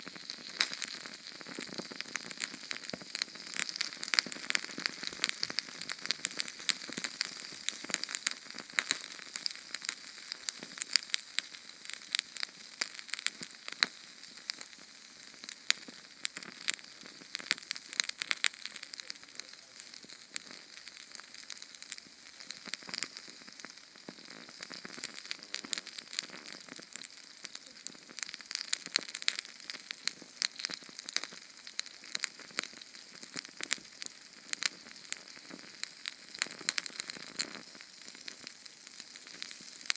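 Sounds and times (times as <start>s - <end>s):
small flame crackling: 0.0s - 39.9s
soft steady hiss: 0.0s - 39.9s.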